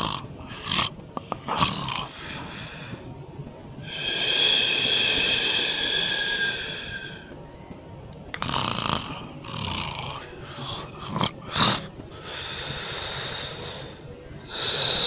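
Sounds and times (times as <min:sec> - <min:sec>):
snoring breaths: 0:00.0 - 0:03.2, 0:03.8 - 0:07.3, 0:08.3 - 0:15.0.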